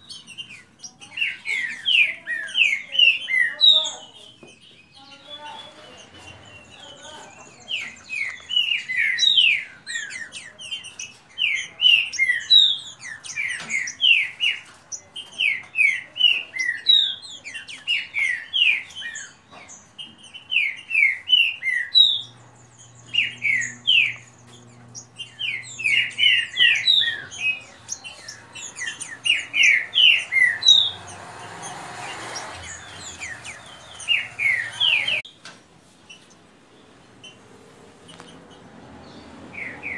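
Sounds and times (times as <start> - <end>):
birds singing whistled notes: 0.0 - 35.4, 38.0 - 39.9.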